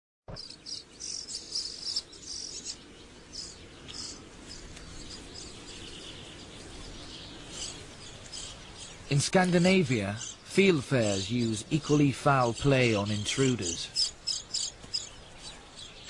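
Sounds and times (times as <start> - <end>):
small birds chirping: 0.3 - 16.0.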